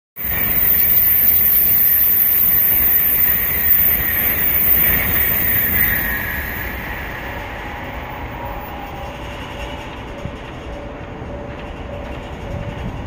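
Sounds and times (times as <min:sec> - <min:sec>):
high-speed train rushing past: 0:00.2 - 0:13.0.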